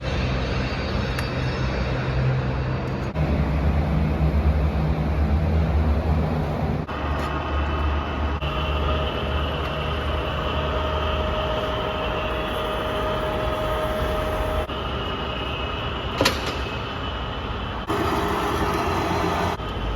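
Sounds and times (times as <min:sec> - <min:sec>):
steady whine: 0:00.0 - 0:19.9.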